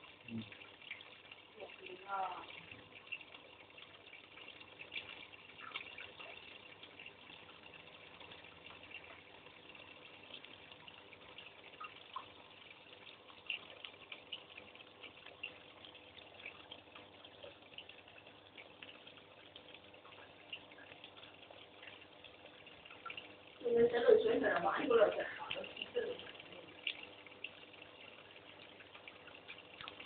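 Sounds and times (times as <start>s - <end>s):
low steady hum: 0.0s - 30.0s
trickling water: 0.0s - 30.0s
water drips and ticks: 0.0s - 30.0s.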